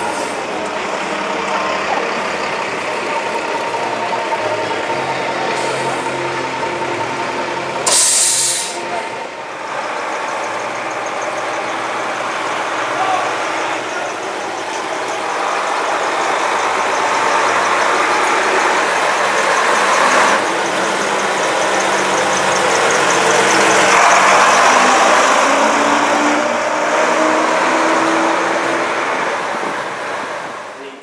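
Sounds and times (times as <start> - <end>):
bus diesel engine passing: 0.0 - 31.0.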